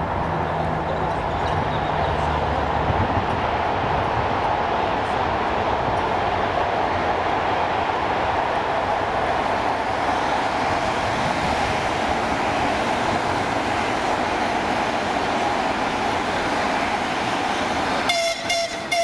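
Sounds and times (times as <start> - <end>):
diesel locomotive running: 0.0 - 19.0.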